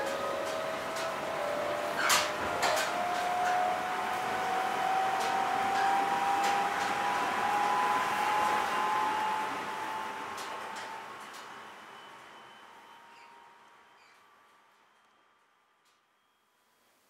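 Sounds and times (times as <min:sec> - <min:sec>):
train motor whine: 0:00.0 - 0:16.5.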